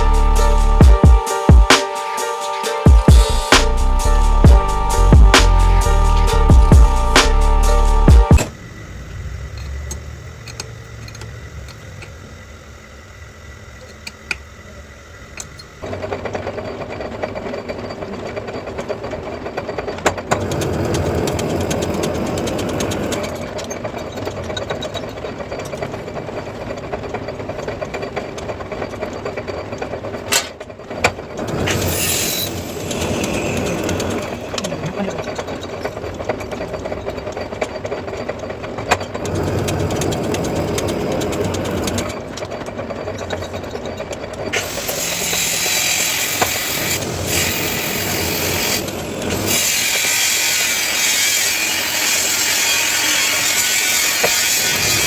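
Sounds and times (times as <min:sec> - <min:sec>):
metal lathe humming and rattling: 0:00.0 - 0:55.0.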